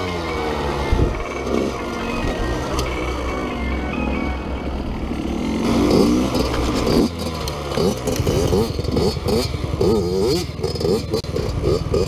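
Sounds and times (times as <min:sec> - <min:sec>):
dirt bike engine revving: 0:00.0 - 0:12.0
other dirt bike engines: 0:00.0 - 0:12.0.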